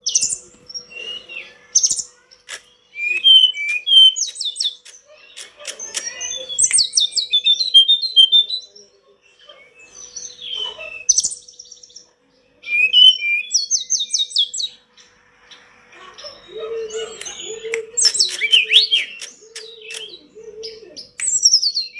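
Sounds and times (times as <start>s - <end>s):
bird singing whistles and trills: 0.0s - 12.0s, 12.6s - 15.1s, 16.3s - 21.9s.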